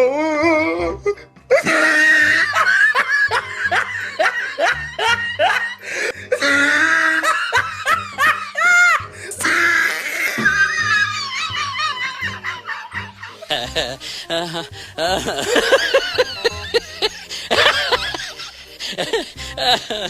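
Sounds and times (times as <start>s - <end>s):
background music with steady beat: 0.0s - 20.0s
person laughing: 1.5s - 9.1s, 10.3s - 20.0s.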